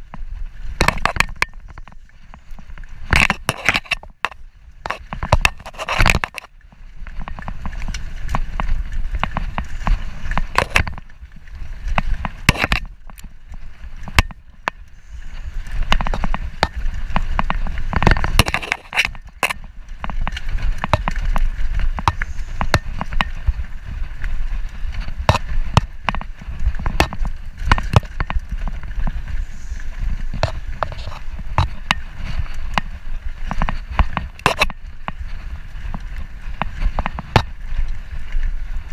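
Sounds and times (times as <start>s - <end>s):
bike rattling and clicking: 0.0s - 38.9s
tyres rolling over dirt and rock: 0.0s - 38.9s.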